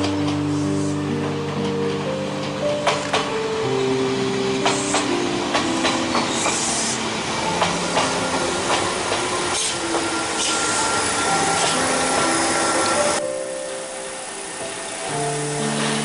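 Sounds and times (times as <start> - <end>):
background music sustained notes: 0.0 - 16.0
electric train hissing: 0.0 - 16.0
wheels clacking over rail joints: 0.0 - 16.0.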